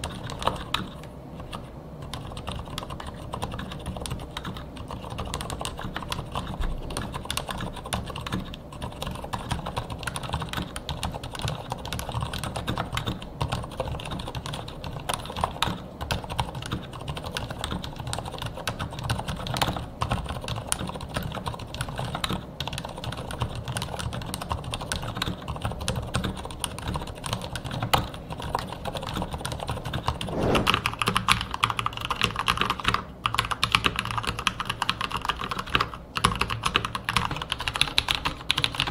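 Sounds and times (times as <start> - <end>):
mechanical keyboard typing: 0.0 - 30.3, 31.0 - 38.9.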